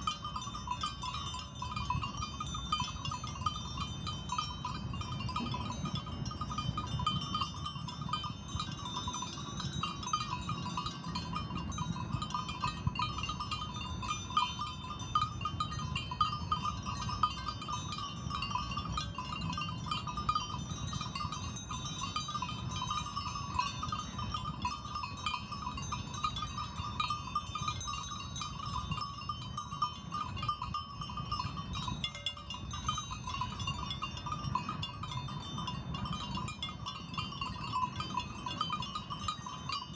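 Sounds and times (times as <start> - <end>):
sheep bells tinkling: 0.0 - 39.9.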